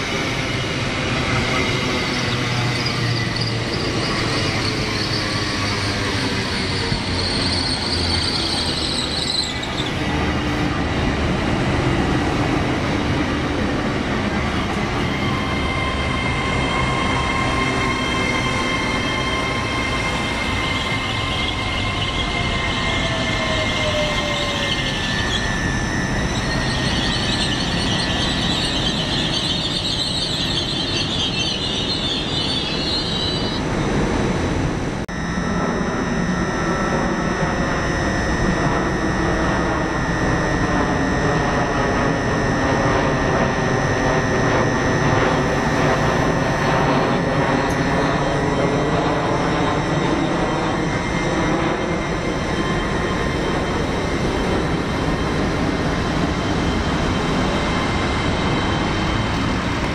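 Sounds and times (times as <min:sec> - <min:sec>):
high-pitched wheel squeal: 0:00.0 - 0:34.0, 0:35.1 - 0:59.9
train rumbling: 0:00.0 - 0:59.9
whining tones: 0:00.0 - 0:59.9.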